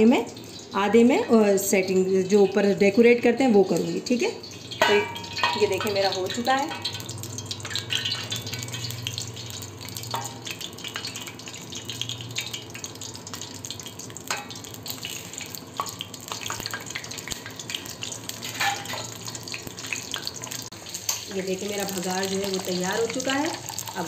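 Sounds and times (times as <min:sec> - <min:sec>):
nuts sizzling in hot oil: 0:00.0 - 0:24.0.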